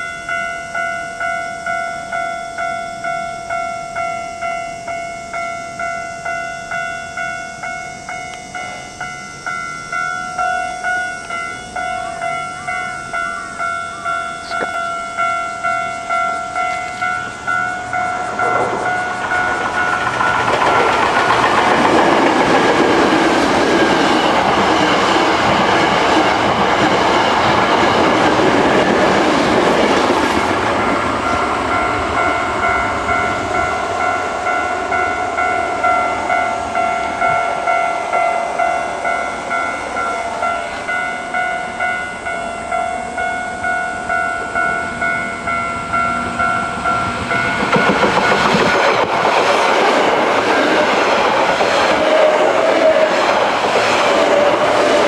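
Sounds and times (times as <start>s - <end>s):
level crossing bell clanging: 0.0s - 55.0s
train rumbling and clattering: 0.0s - 55.0s.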